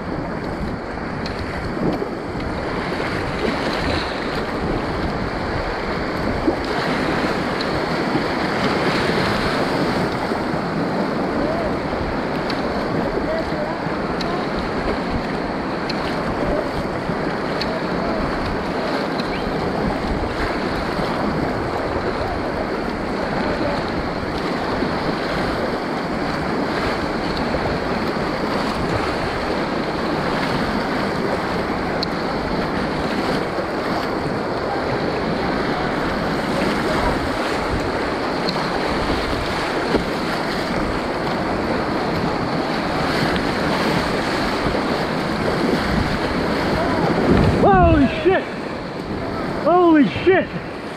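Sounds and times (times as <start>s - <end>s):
river whitewater rushing: 0.0s - 50.9s
waves splashing against hull: 0.0s - 50.9s.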